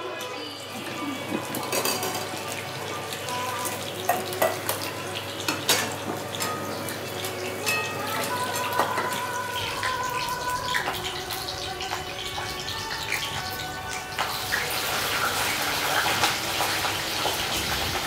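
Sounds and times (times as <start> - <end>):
frying sizzle: 0.0 - 18.0
pots and utensils clinking: 0.0 - 18.0.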